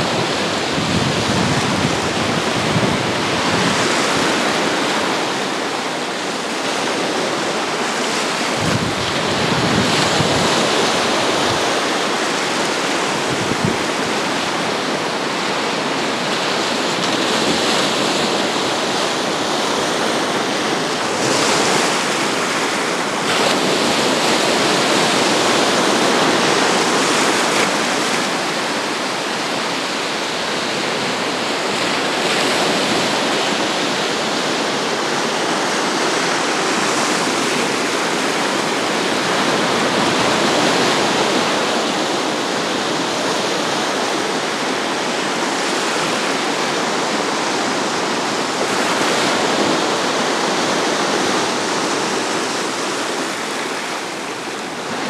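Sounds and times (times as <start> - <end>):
surf washing over shallows: 0.0 - 55.0.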